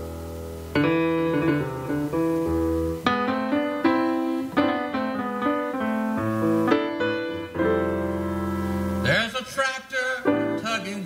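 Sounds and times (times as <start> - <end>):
grand piano chords: 0.0 - 11.0.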